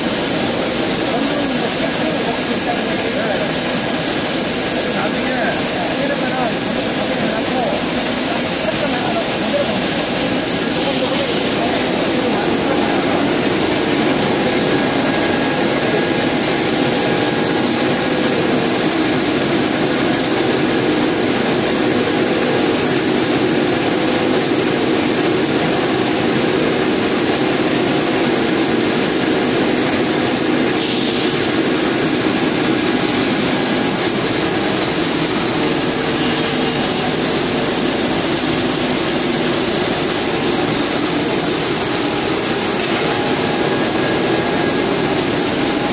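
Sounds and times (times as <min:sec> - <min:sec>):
blower air hiss: 0:00.0 - 0:45.9
extruder machine droning: 0:00.0 - 0:45.9
steady machine tones: 0:00.0 - 0:45.9.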